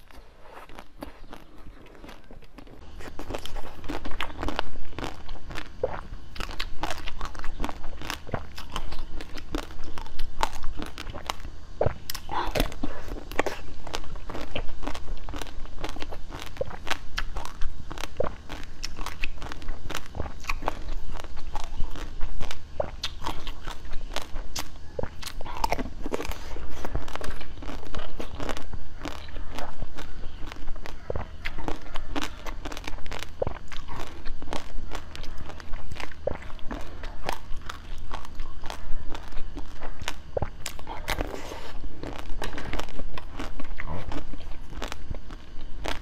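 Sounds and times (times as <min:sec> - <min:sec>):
crunchy chewing of candy: 0:00.0 - 0:46.0.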